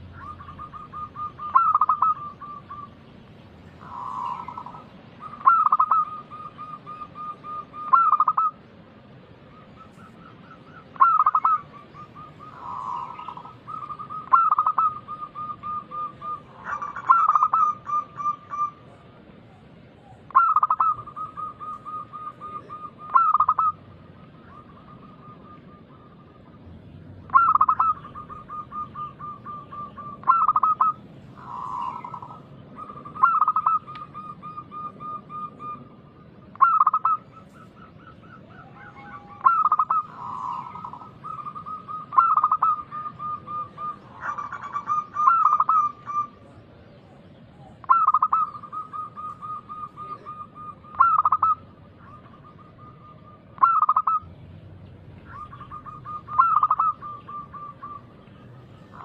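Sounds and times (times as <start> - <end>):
dove cooing: 0.0 - 8.7, 9.4 - 59.0
soft overlapping bird calls: 0.0 - 59.0.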